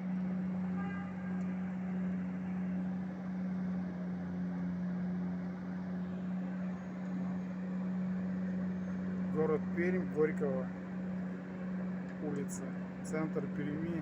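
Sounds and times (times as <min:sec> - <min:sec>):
road-works machinery engine drone: 0:00.0 - 0:14.0.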